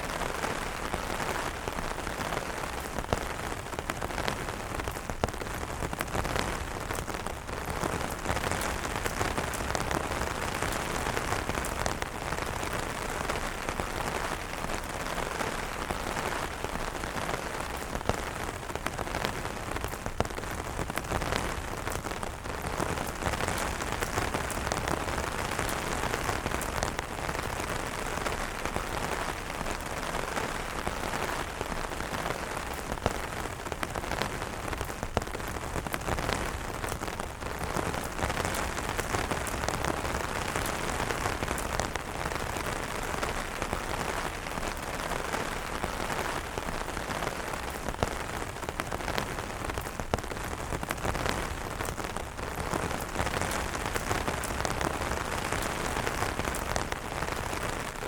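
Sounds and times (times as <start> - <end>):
rain falling on umbrellas: 0.0 - 58.0.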